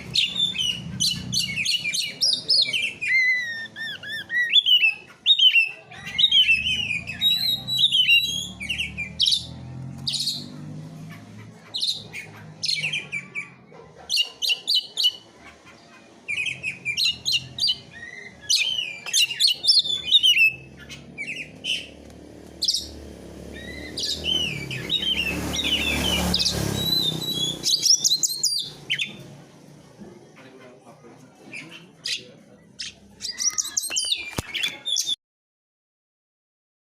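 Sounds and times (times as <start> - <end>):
songbird chirping and trilling: 0.0 - 35.2.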